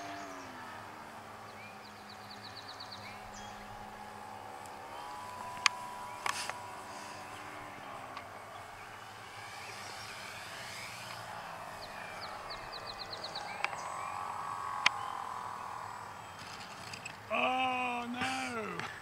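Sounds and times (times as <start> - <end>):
electric motor whine: 0.0 - 17.3.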